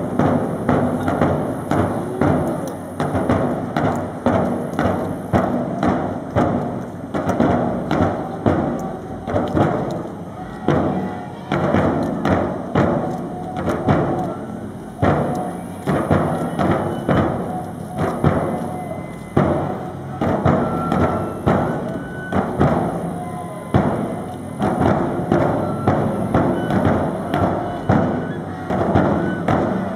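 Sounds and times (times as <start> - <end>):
large drum beats: 0.0 - 29.9
voices: 0.0 - 29.9.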